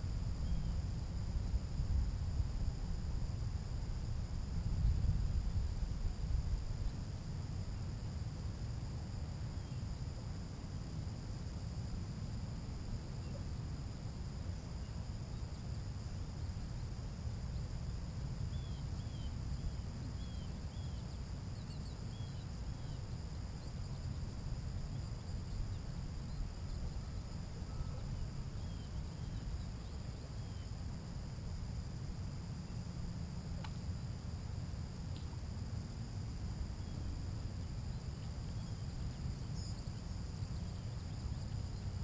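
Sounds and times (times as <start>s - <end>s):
crickets trilling: 0.0s - 42.0s
low steady rumble: 0.0s - 42.0s.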